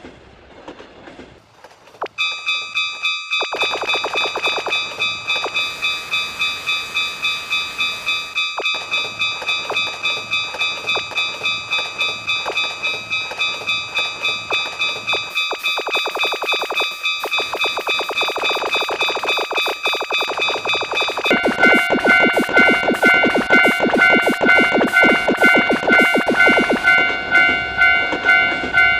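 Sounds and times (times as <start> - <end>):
train wheels clicking over rails: 0.0 - 28.9
level-crossing bell ringing: 2.0 - 28.9.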